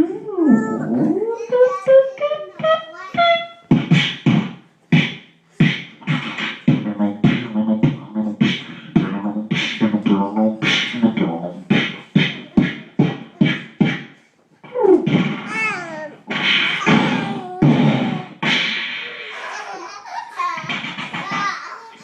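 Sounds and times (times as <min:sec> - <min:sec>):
man beatboxing: 0:00.0 - 0:19.4, 0:20.6 - 0:22.0.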